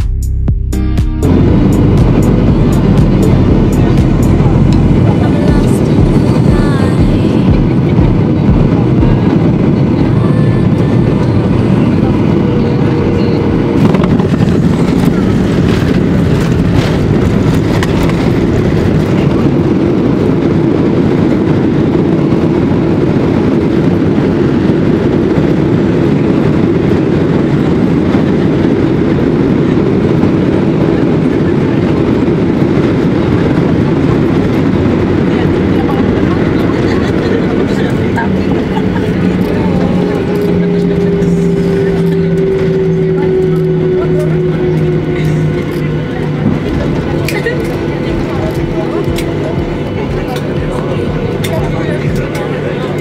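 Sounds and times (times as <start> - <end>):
jet engines roaring: 1.2 - 53.0
rushing air: 1.2 - 53.0.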